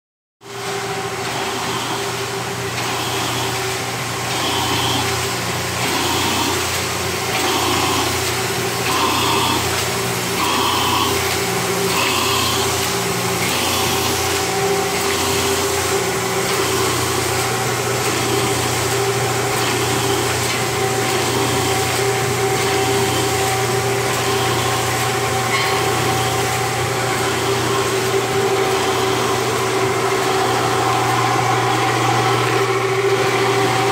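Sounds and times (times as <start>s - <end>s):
motor hum: 0.5s - 33.9s.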